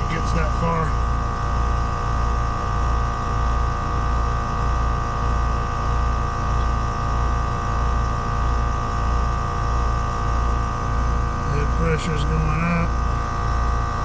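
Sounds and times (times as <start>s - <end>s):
heat pump compressor and fan hum: 0.0s - 14.0s.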